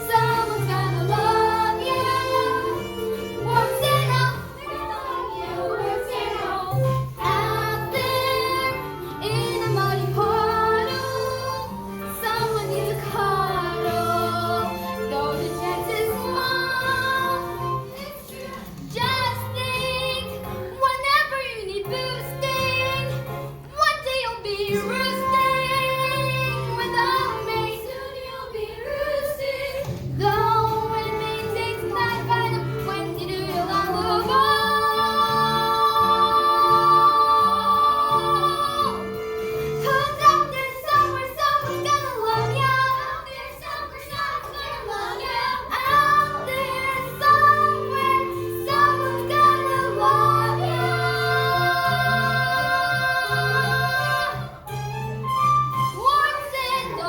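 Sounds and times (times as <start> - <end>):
musical accompaniment: 0.0 - 57.0
girl singing: 3.4 - 39.0, 39.8 - 54.5, 56.0 - 57.0.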